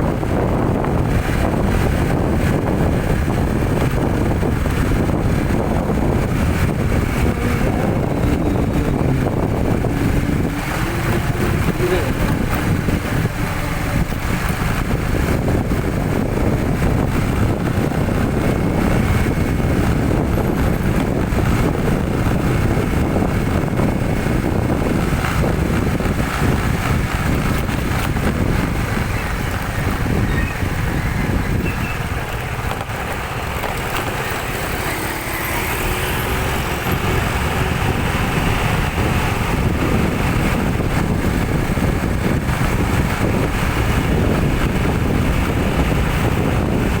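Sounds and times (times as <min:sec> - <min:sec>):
vehicle engine and road noise: 0:00.0 - 0:47.0.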